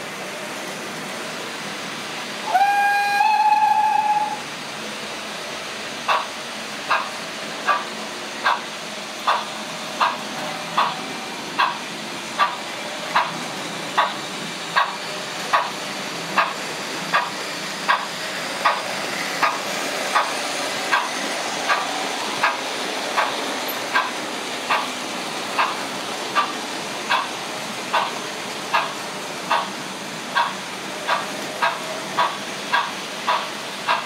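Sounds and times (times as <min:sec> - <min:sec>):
model steam locomotive chuffing: 0:00.0 - 0:34.0
model train running on track: 0:00.0 - 0:34.0.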